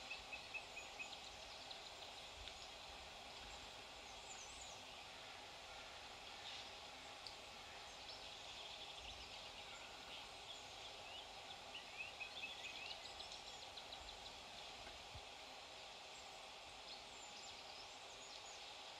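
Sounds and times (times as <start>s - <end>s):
faint birdsong: 0.0s - 18.9s.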